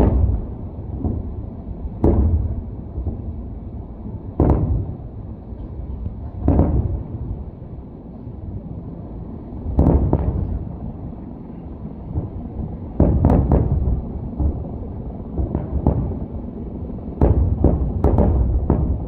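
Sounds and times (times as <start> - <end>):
fireworks bursting in booms: 0.0 - 7.6, 9.7 - 10.9, 12.0 - 19.0.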